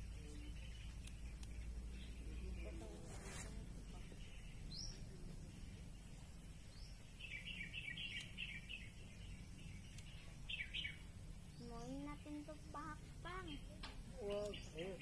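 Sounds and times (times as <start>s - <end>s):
low outdoor background noise: 0.0s - 15.0s
small birds chirping: 0.0s - 15.0s.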